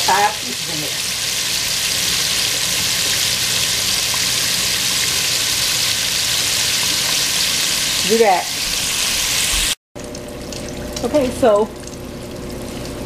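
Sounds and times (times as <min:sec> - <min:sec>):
ribs sizzling in hot oil: 0:00.0 - 0:13.0.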